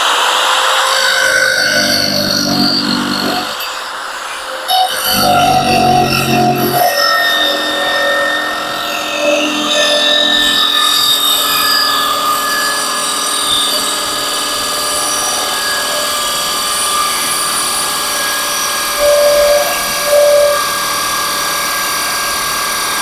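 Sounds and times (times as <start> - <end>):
electric drill cutting plywood: 0.0 - 23.0.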